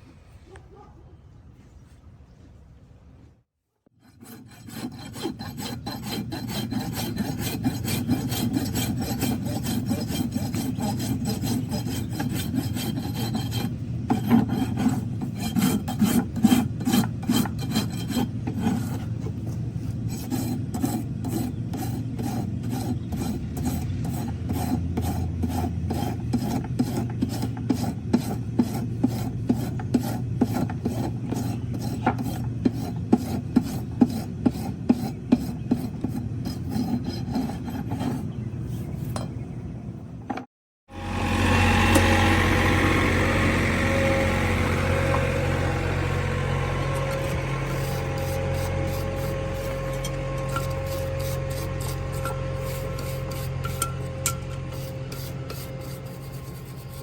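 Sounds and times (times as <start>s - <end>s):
rasp filing a hoof: 4.0s - 39.4s, 41.8s - 57.0s.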